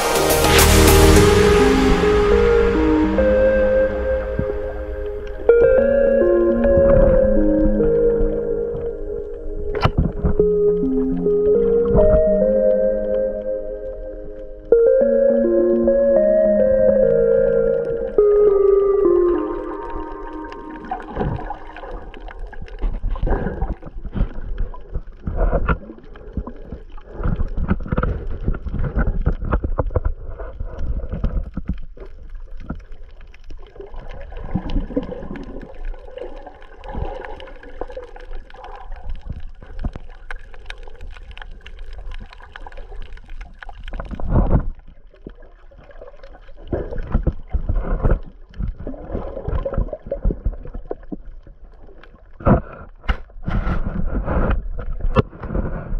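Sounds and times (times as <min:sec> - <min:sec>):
underwater sloshing and gurgling: 0:01.2 - 0:55.9.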